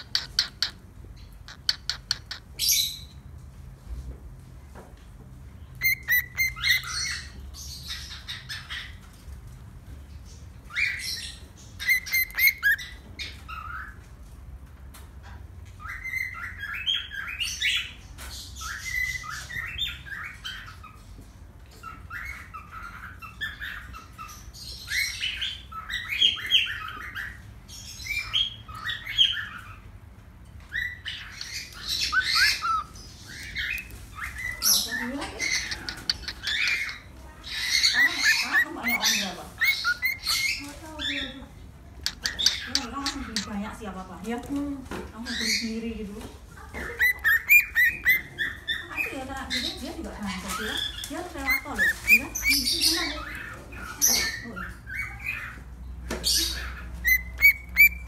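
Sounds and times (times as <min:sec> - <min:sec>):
cockatiel chirping: 0:00.0 - 0:03.2, 0:05.8 - 0:09.1, 0:10.7 - 0:14.0, 0:15.8 - 0:21.1, 0:21.8 - 0:29.8, 0:30.7 - 0:41.4, 0:42.0 - 0:44.4, 0:46.6 - 0:58.0.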